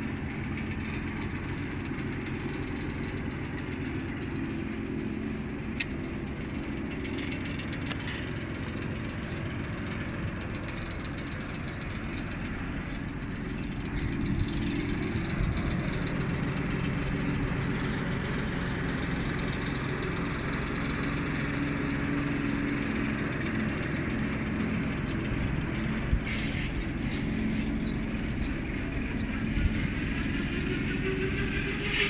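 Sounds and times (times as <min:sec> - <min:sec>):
diesel boat engine droning: 0:00.0 - 0:32.0.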